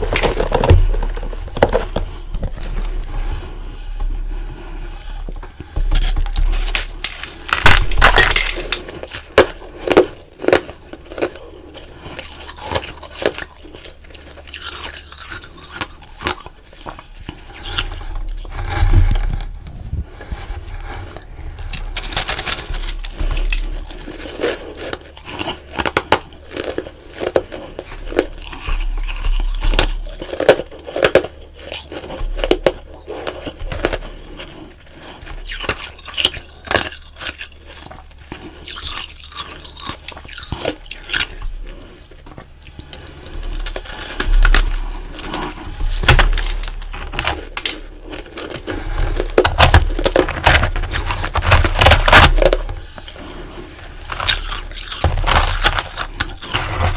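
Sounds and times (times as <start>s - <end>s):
crunchy ice chewing: 0.0s - 19.6s, 20.2s - 56.9s.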